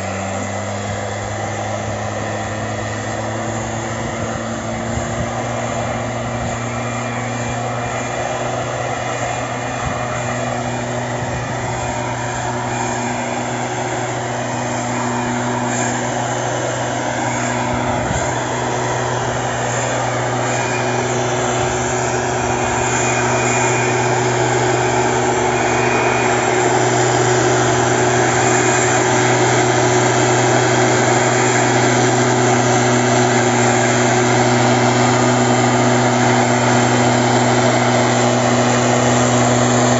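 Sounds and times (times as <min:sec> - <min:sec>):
air and spray rushing: 0:00.0 - 0:39.9
two-stroke engine running: 0:00.0 - 0:39.9.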